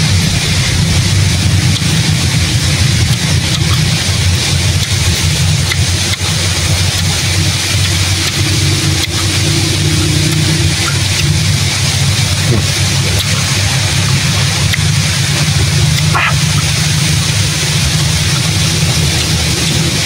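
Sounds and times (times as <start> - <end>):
loud low rumble: 0.0 - 20.0.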